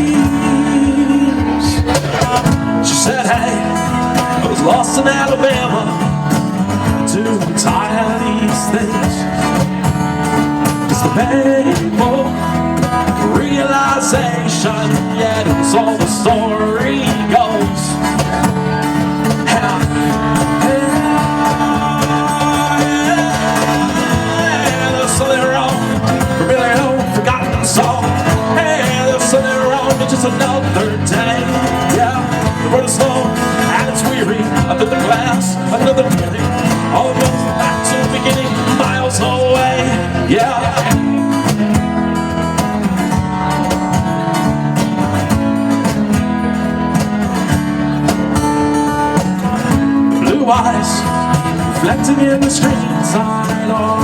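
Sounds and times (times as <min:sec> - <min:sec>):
live band playing: 0:00.0 - 0:54.0
strummed acoustic guitar: 0:00.0 - 0:54.0.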